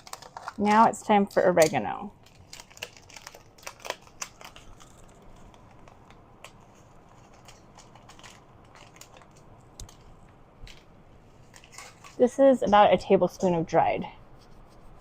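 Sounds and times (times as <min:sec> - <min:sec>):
dried herbs crinkling: 0:00.0 - 0:13.5.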